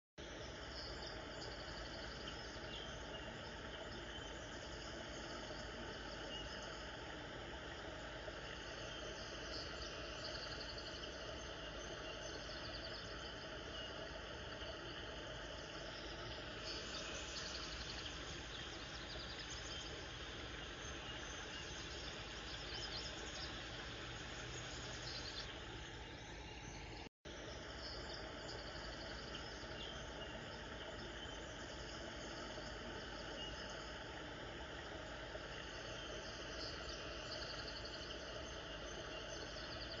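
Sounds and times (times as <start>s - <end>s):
outdoor background hiss: 0.2s - 40.0s.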